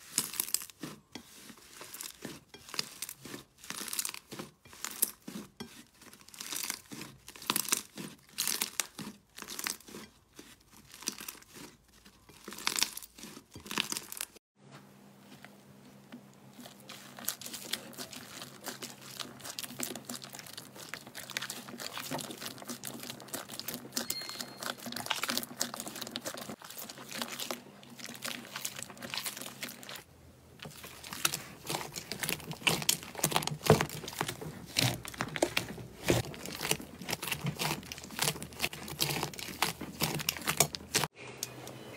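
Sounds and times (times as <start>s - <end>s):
slime crackling and popping: 0.0s - 0.9s, 1.6s - 14.4s, 16.6s - 41.1s.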